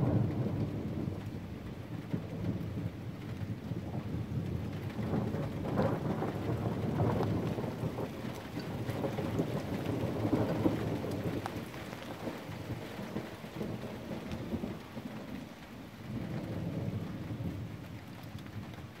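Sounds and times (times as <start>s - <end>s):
rolling thunder: 0.0s - 19.0s
steady rain: 0.0s - 19.0s.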